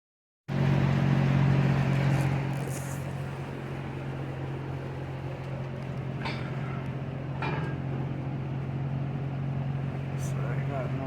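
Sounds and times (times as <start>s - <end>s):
engine idling: 0.5s - 11.0s.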